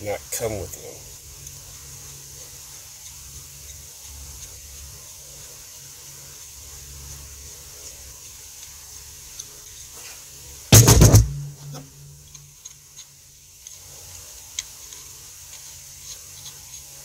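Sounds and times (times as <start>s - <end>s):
faint low hum and hiss: 0.0s - 17.0s.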